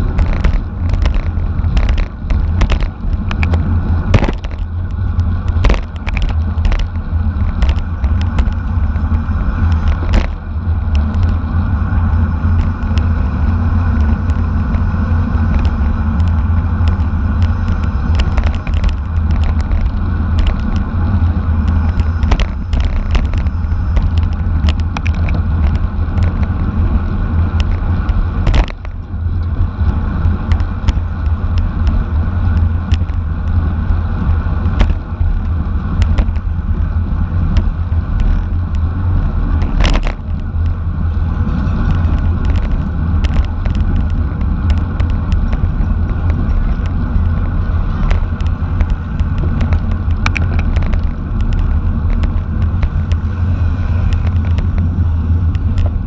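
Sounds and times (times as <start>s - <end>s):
road noise: 0.0s - 56.0s
sharp clicks and knocks: 0.0s - 56.0s
wind rumble on microphone: 0.0s - 56.0s.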